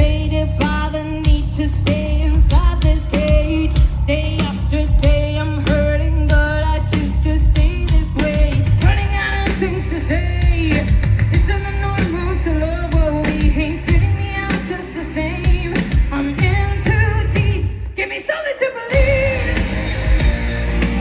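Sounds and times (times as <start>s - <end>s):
distorted electric guitars: 0.0s - 17.8s, 18.9s - 21.0s
bass guitar: 0.0s - 17.9s, 19.0s - 21.0s
pounding drum kit: 0.0s - 17.9s, 18.9s - 21.0s
woman singing: 0.0s - 21.0s.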